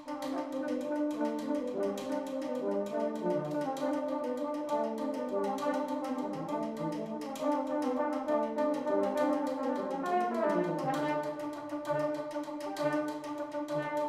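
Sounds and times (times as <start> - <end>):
brass band playing: 0.2 - 14.0.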